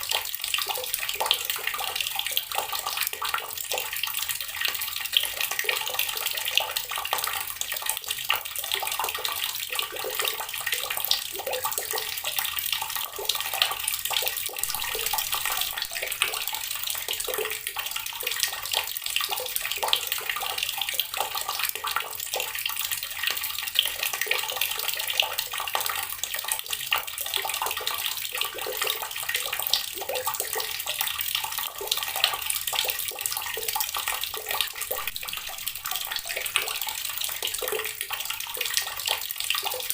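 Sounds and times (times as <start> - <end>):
water running from a tap: 0.0 - 39.9
water splashing into a basin: 0.0 - 39.9.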